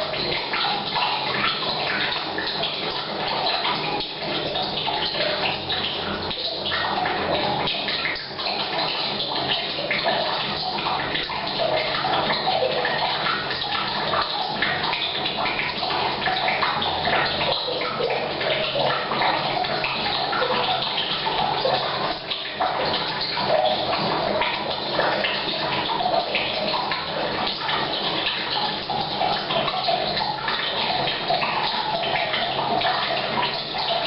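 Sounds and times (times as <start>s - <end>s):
water pouring into tank: 0.0s - 34.0s.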